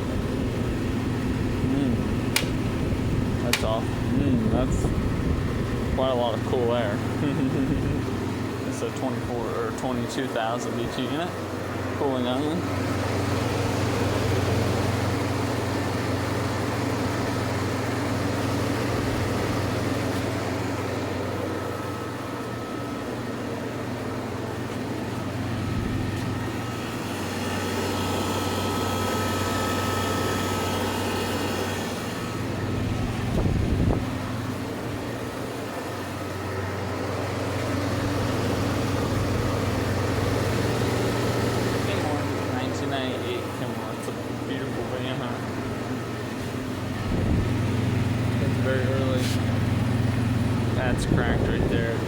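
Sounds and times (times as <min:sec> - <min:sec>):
air conditioner blowing air: 0:00.0 - 0:52.0
air conditioner compressor hum: 0:00.0 - 0:52.0.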